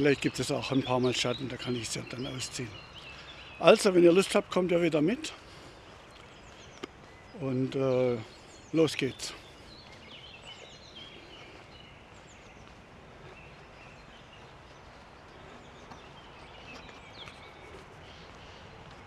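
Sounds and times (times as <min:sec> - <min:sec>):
faint songbird chirps: 0:00.0 - 0:19.0.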